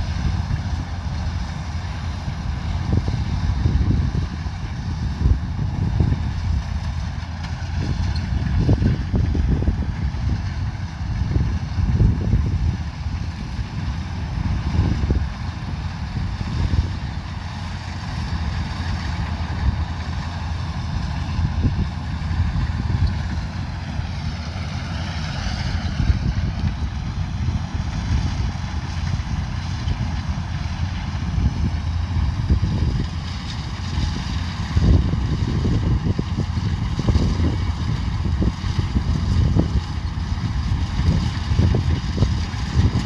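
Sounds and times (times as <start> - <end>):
combine harvester engine drone: 0.0 - 43.0.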